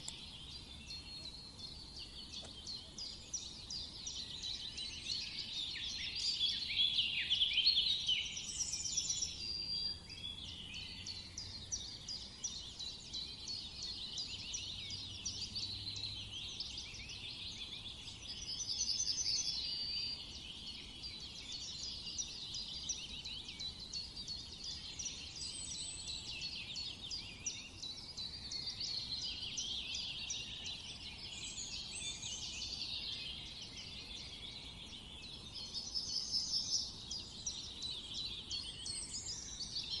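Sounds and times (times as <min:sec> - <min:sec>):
small birds chirping and chattering: 0:00.0 - 0:40.0.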